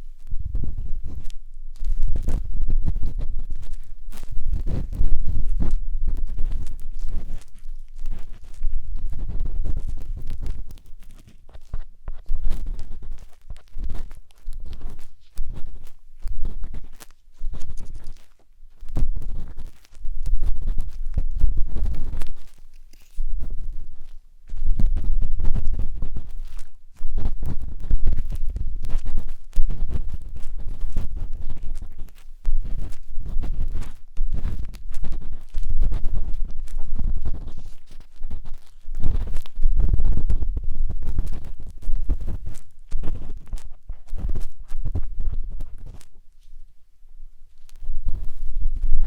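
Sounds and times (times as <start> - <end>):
matchstick scraping microphone: 0.0 - 46.7, 47.5 - 49.0.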